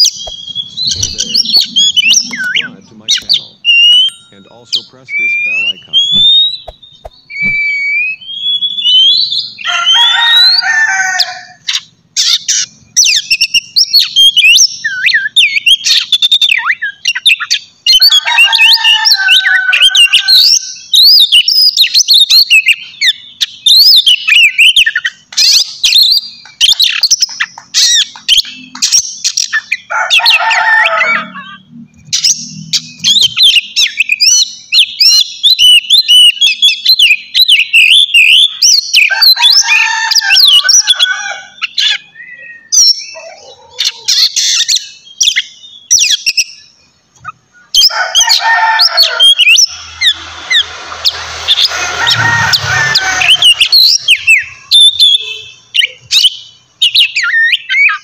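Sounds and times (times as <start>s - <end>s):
bird singing whistles and trills: 0.0s - 10.6s, 12.2s - 29.9s, 31.3s - 39.6s, 41.6s - 47.9s, 53.3s - 58.0s
bird harsh chattering calls: 0.0s - 46.6s, 47.2s - 58.0s.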